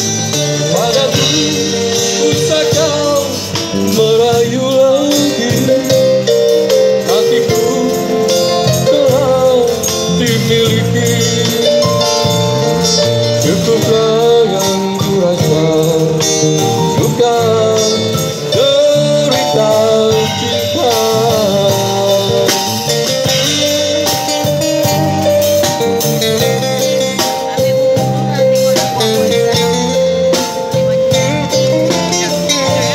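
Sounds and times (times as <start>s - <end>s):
live band playing: 0.0s - 32.9s
man singing into microphone: 0.0s - 32.9s.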